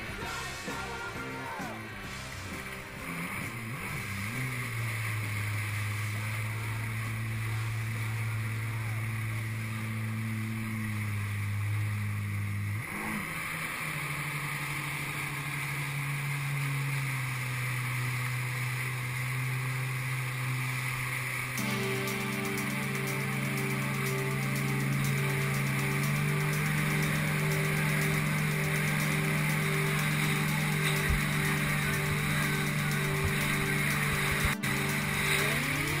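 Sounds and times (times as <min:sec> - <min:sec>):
jet ski engine running: 0:00.0 - 0:36.0
rushing water: 0:00.0 - 0:36.0.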